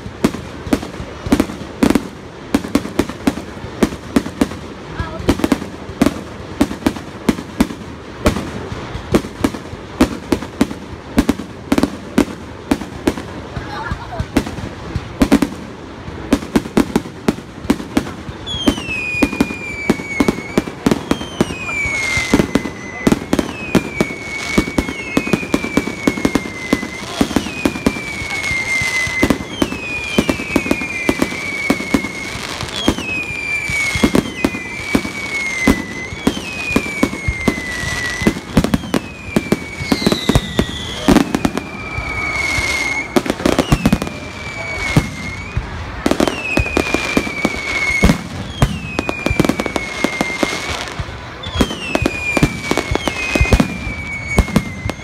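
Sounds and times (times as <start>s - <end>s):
fireworks bangs: 0.0s - 55.0s
whistling fireworks: 0.0s - 55.0s.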